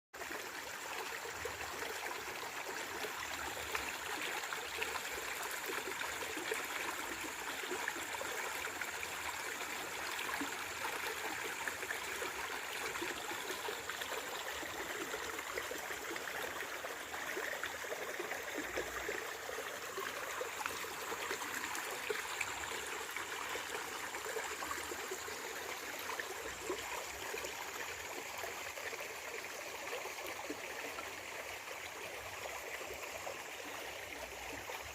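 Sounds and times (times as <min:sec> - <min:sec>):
stream of water running: 0:00.2 - 0:34.9.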